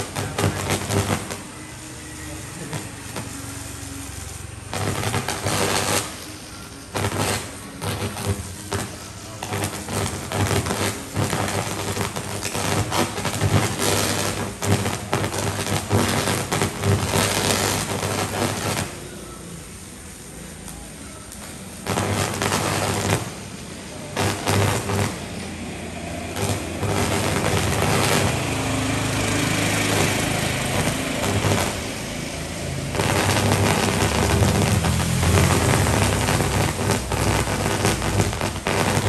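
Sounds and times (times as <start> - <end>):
electrical arc crackling: 0.0 - 39.0.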